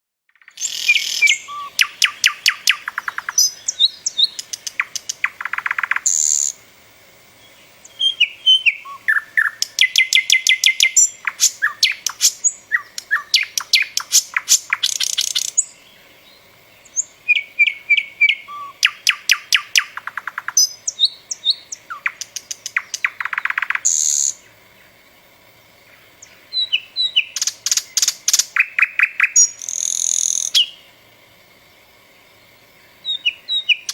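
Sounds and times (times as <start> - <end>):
songbird singing trills and whistles: 0.4 - 6.6, 7.4 - 25.0, 26.2 - 30.9, 32.9 - 33.9.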